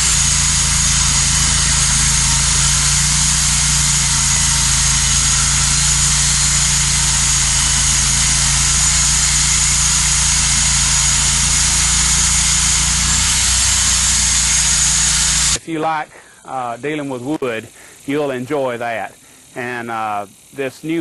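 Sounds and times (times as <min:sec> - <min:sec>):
band sawmill running: 0:00.0 - 0:19.5.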